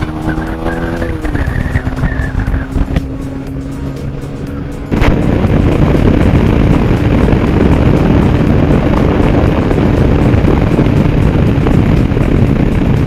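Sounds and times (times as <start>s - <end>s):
vehicle engine running: 0.0s - 13.0s
wind rushing on microphone: 0.0s - 13.0s.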